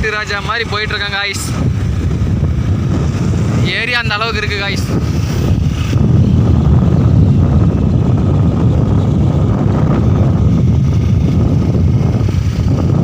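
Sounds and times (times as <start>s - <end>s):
motorcycle engine and road rumble: 0.0s - 13.0s
wind buffeting microphone: 0.0s - 13.0s.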